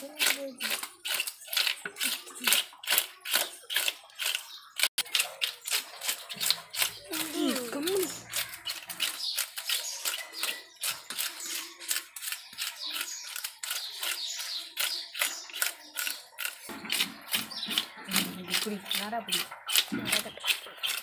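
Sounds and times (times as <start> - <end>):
scraper rasping fish scales: 0.0 - 21.0.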